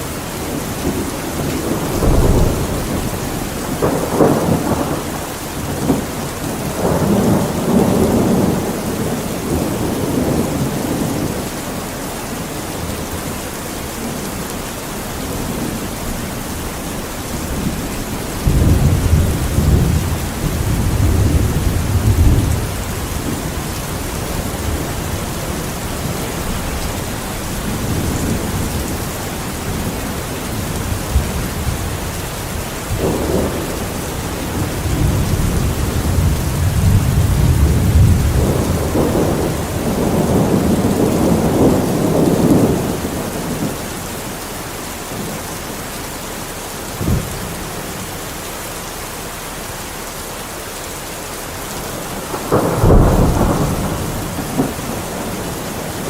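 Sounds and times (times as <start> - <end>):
steady rain: 0.0 - 56.0
rolling thunder: 0.4 - 11.6, 14.0 - 43.9, 46.9 - 48.0, 51.9 - 56.0.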